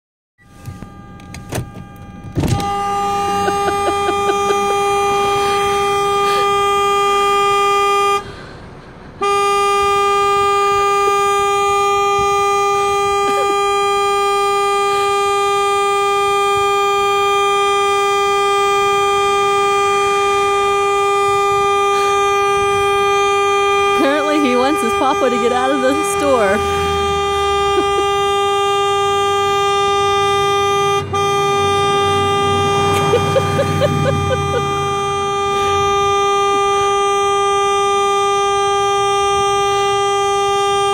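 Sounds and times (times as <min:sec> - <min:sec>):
car horn honking: 0:00.4 - 0:40.9.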